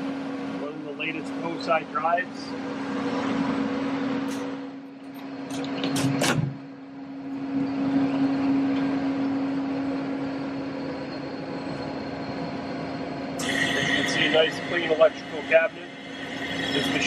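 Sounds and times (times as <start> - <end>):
fan or motor humming: 0.0 - 17.0.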